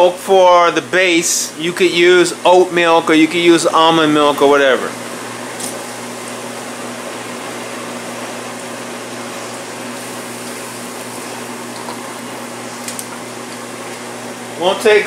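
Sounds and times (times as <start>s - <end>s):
gas burner hum: 0.0s - 15.0s
ventilation whir: 0.0s - 15.0s.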